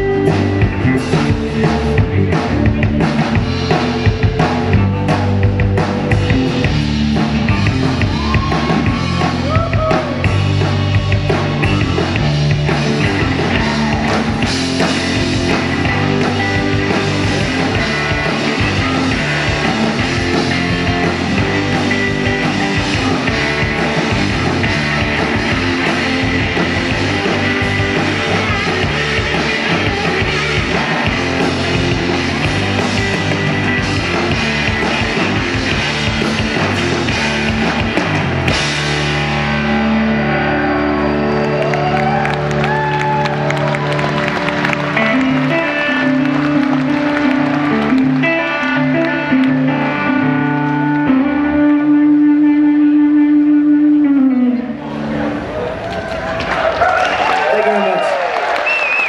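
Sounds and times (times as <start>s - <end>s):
blues-rock band playing live: 0.0s - 56.1s
electric guitar lead: 0.0s - 56.4s.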